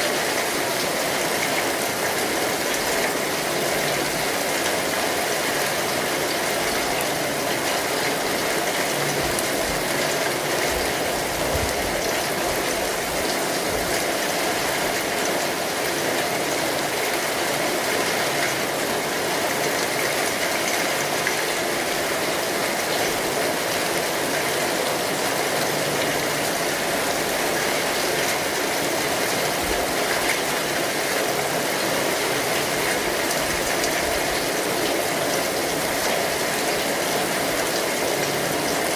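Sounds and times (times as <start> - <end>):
rain on an umbrella: 0.0 - 38.9.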